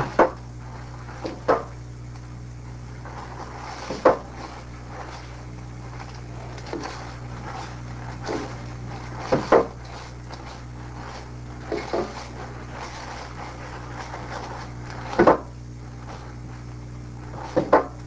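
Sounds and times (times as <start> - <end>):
grinder knocks and clunks: 0.0 - 18.0
steady low hum: 0.0 - 18.0.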